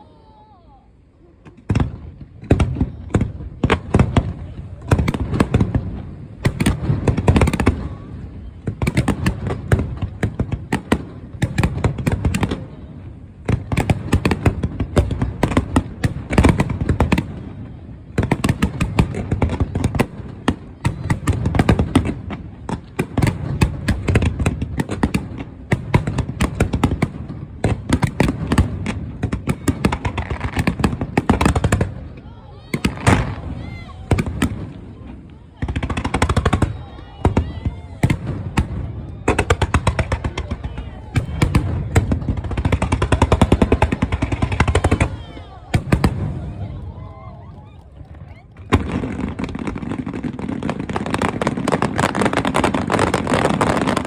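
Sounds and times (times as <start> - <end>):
fireworks banging and crackling: 1.4 - 54.0.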